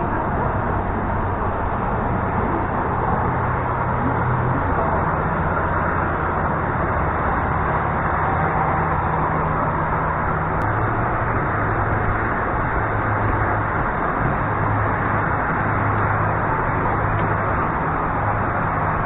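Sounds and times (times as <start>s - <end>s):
low engine drone: 0.0s - 19.0s
traffic rumble: 0.0s - 19.0s.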